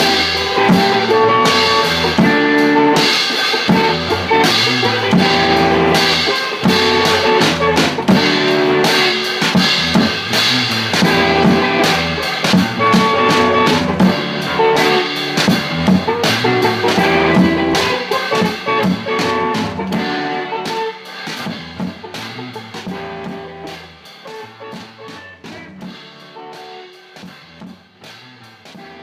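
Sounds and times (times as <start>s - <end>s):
song with guitar and drums: 0.0s - 29.0s.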